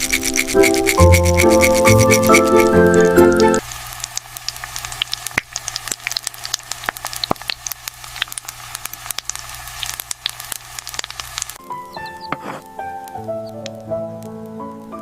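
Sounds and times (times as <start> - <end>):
food sizzling in hot oil: 0.0 - 15.0
oil popping and crackling: 0.0 - 15.0.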